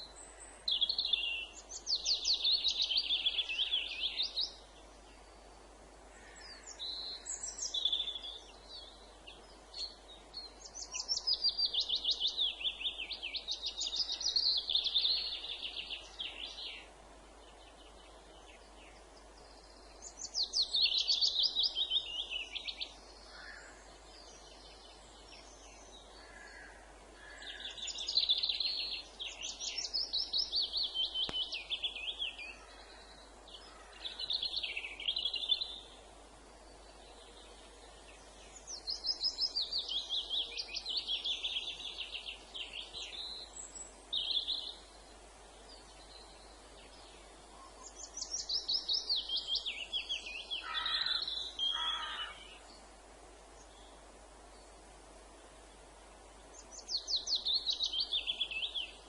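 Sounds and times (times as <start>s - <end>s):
faint steady background hiss: 0.0s - 59.0s
songbird singing: 0.0s - 59.0s.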